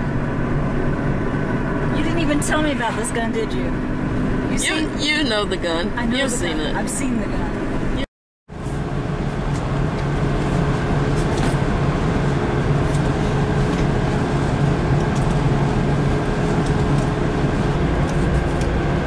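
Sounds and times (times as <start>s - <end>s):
ventilation drone: 0.0s - 19.0s.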